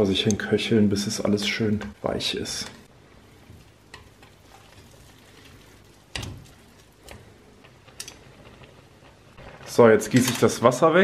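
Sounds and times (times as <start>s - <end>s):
water simmering hiss: 0.0s - 11.0s.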